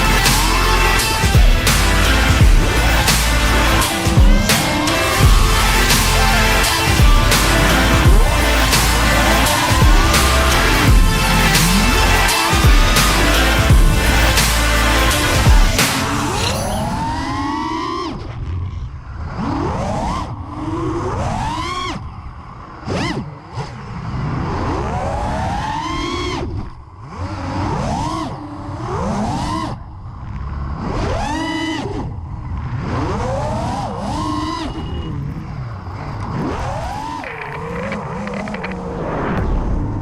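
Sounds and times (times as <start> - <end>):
drone motors whining: 0.0 - 40.0.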